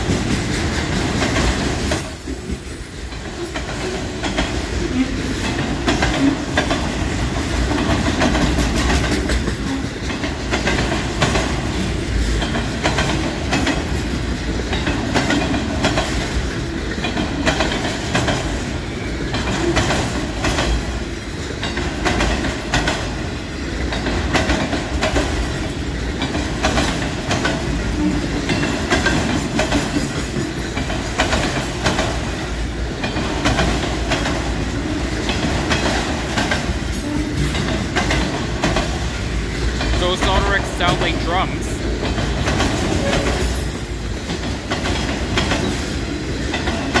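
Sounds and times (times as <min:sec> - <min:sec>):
freight train wheels rolling: 0:00.0 - 0:47.0
wheels clacking over rail joints: 0:00.0 - 0:47.0.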